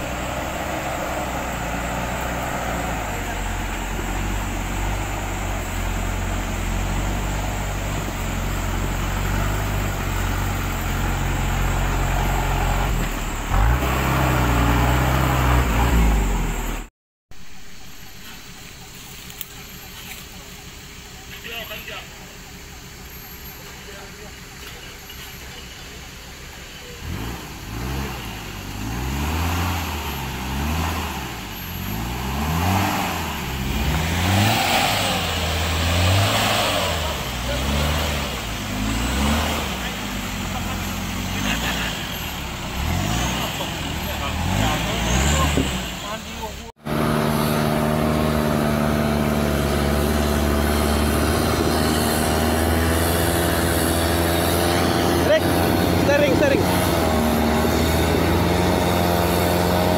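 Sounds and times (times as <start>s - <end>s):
truck engine revving: 0.0s - 16.9s, 17.8s - 59.9s.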